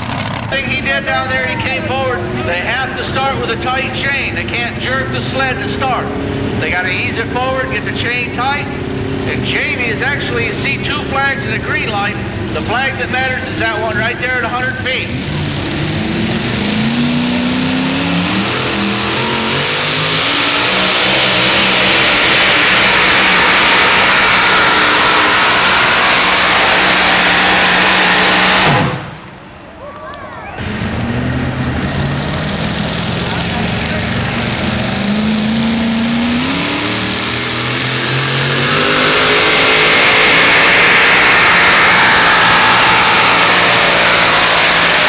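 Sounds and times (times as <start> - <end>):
truck engine at full throttle: 0.0 - 29.6, 30.6 - 45.0.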